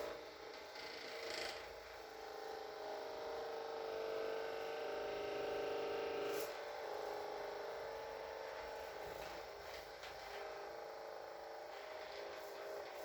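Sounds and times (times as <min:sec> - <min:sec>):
small electric motor humming: 0:00.0 - 0:13.0.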